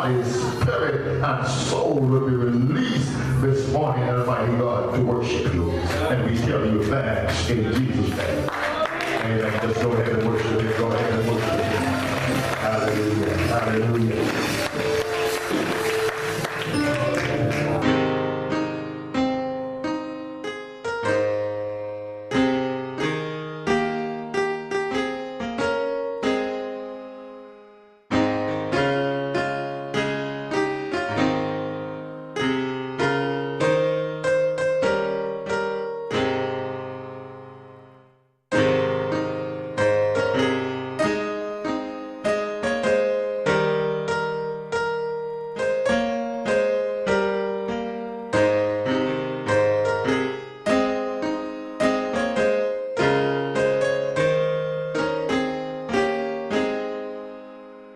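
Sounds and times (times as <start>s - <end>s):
slow piano chords: 0.0s - 57.9s.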